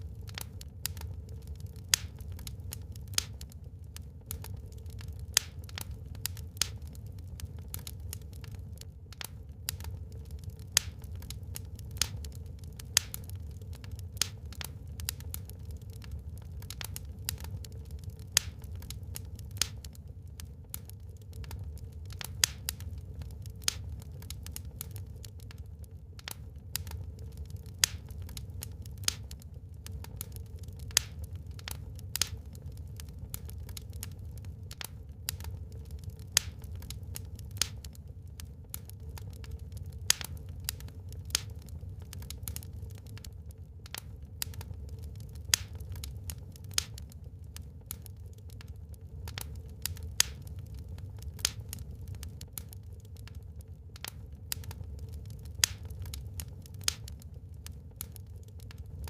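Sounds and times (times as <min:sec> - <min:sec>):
wood crackling in a fireplace: 0:00.0 - 0:59.0.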